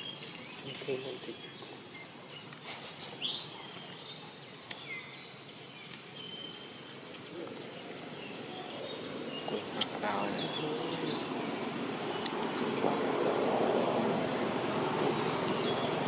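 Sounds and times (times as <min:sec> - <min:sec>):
birds chirping: 0:00.0 - 0:16.0
outdoor background noise: 0:00.0 - 0:16.0.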